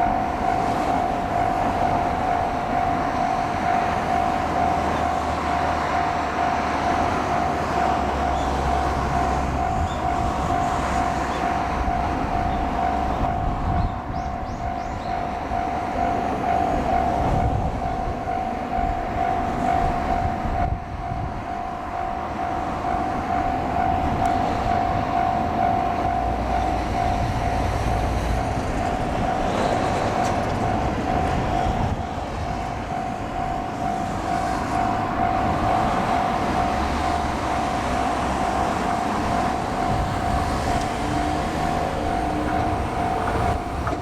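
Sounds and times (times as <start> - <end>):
level crossing alarm ringing: 0.0 - 44.0
train wheels rumbling on rails: 0.0 - 44.0.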